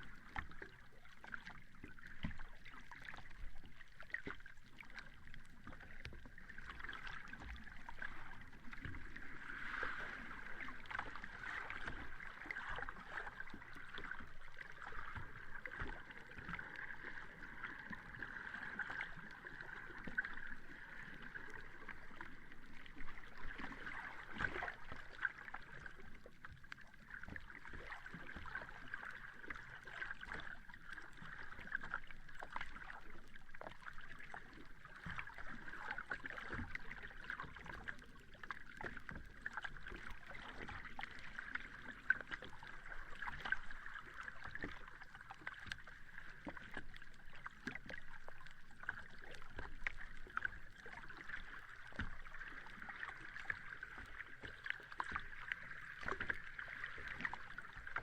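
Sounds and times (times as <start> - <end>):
small splashes and clicks: 0.2 - 58.0.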